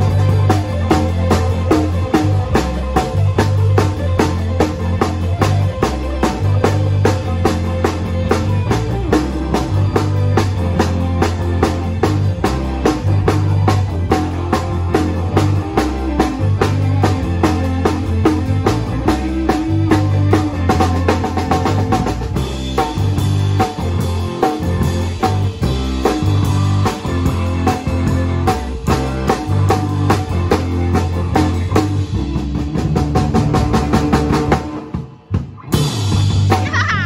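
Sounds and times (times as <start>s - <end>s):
bass line: 0.0s - 37.0s
drum kit beat: 0.0s - 37.0s
electric guitar: 0.0s - 37.0s.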